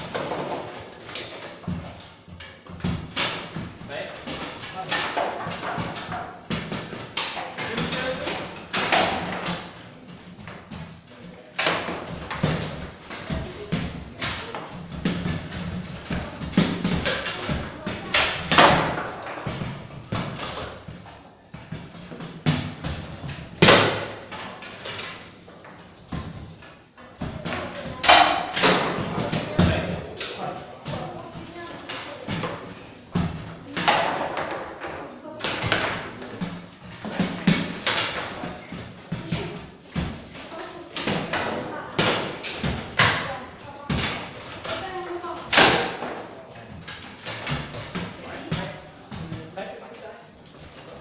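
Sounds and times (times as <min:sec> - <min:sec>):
foosball ball clacking: 0:00.0 - 0:49.4
foosball rods knocking: 0:00.0 - 0:49.6.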